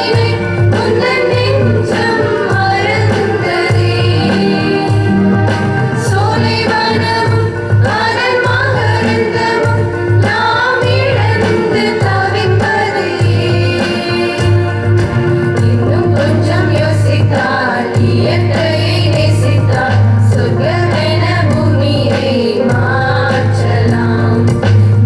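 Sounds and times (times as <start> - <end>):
song with singing voices: 0.0 - 25.0.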